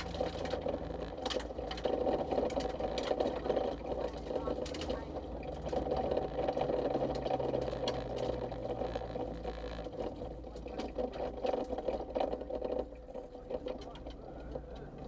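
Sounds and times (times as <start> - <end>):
car engine running: 0.0 - 15.0
ticks and rattles in cabin: 0.0 - 15.0.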